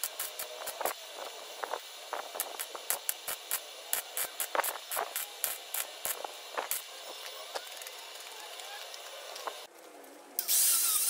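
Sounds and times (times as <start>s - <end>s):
welder crackling in bursts: 0.0s - 11.0s.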